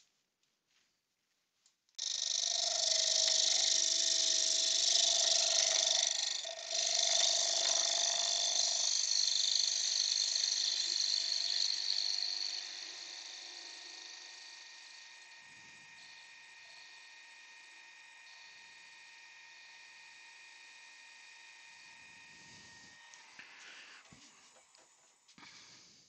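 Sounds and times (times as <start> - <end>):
turning tool hissing cut: 2.0 - 24.7
wood lathe running: 2.0 - 24.8.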